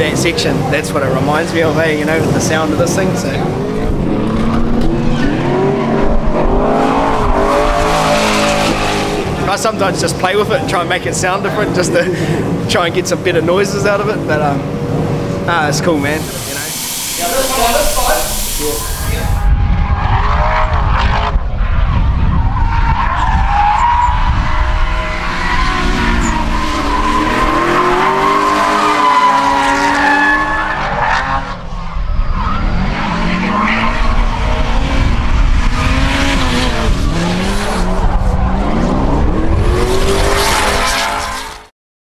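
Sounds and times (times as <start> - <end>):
car engine revving: 0.0 - 41.7.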